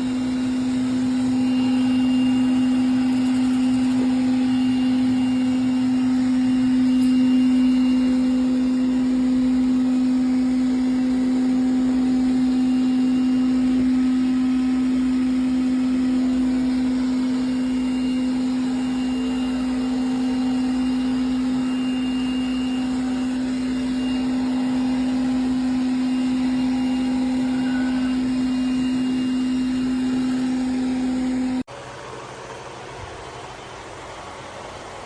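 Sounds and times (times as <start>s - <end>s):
robot vacuum motor hum: 0.0s - 31.6s.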